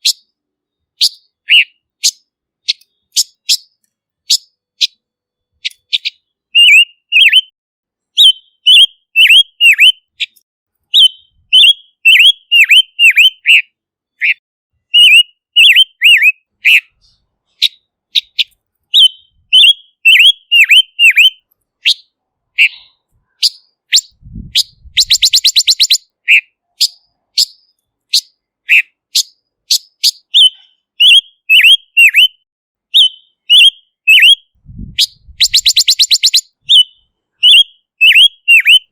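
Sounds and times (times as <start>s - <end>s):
bird whistled notes: 1.0s - 5.0s, 5.6s - 7.5s, 8.2s - 38.9s.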